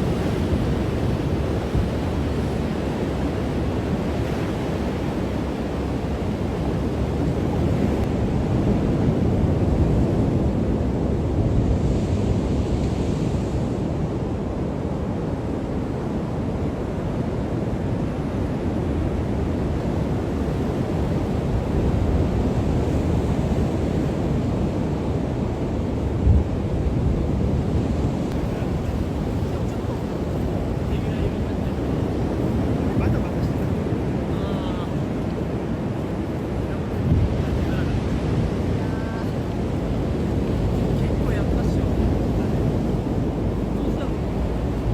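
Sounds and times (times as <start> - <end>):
breaking surf: 0.0 - 14.0, 17.6 - 44.9
wind rumbling on microphone: 0.0 - 44.9.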